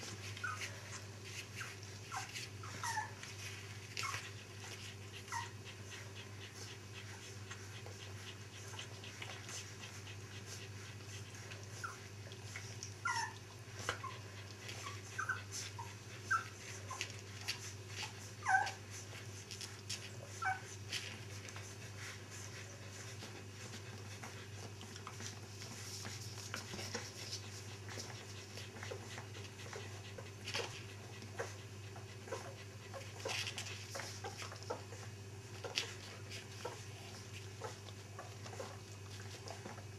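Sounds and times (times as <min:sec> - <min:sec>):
puppies whimpering: 0:00.0 - 0:39.9
steady low hum: 0:00.0 - 0:39.9.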